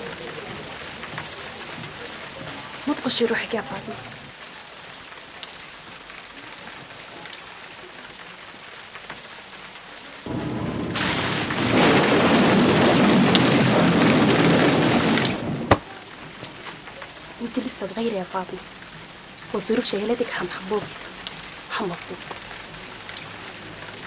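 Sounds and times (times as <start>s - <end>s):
loud rain downpour with rumble: 0.0s - 24.0s
rain hissing: 0.0s - 24.0s.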